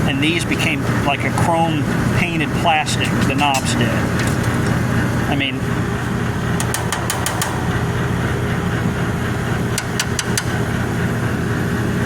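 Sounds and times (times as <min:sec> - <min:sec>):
window air conditioner humming: 0:00.0 - 0:12.0.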